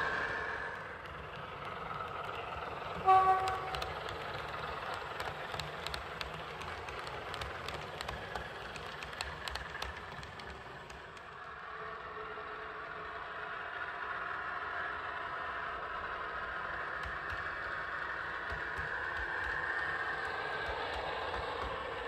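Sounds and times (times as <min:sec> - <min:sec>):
model train wheels clicking: 0:00.0 - 0:11.6, 0:13.7 - 0:22.0
model train humming: 0:00.0 - 0:22.0.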